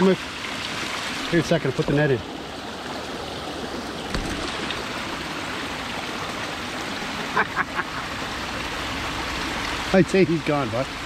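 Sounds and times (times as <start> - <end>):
brook water rushing: 0.0 - 11.0.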